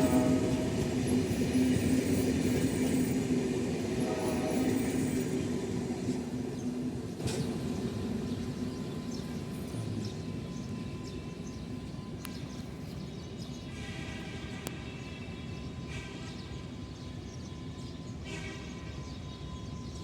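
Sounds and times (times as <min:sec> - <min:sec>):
diesel train rumbling past: 0:00.0 - 0:20.0.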